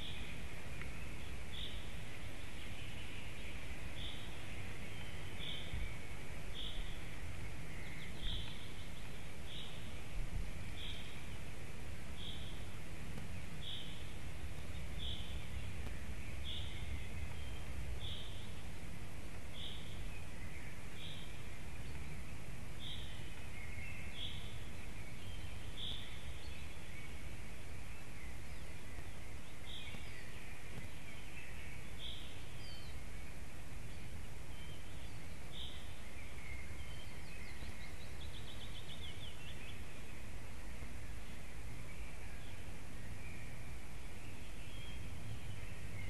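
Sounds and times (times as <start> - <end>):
low background rumble: 0.0 - 46.0.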